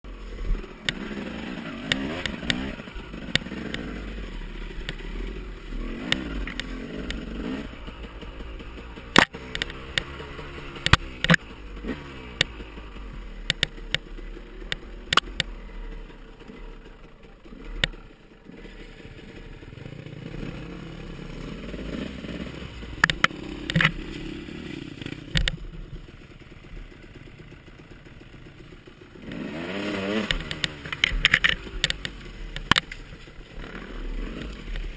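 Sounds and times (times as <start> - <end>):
dirt bike engines revving: 0.1 - 34.9.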